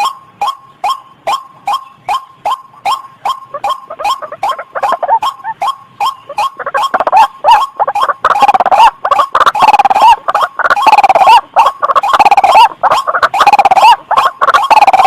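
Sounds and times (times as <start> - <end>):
bird calling harshly: 0.0 - 15.0.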